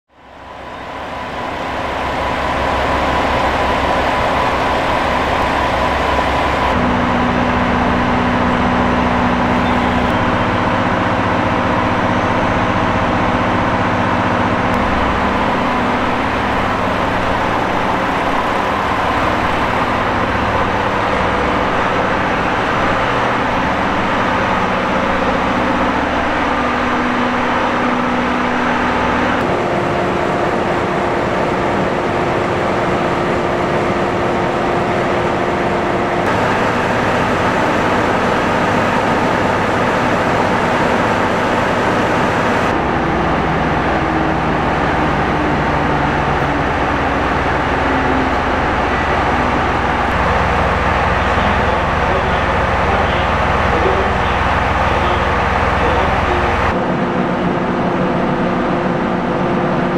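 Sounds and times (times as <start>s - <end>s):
diesel engine hum: 0.1s - 59.9s
train rumbling: 0.1s - 59.9s.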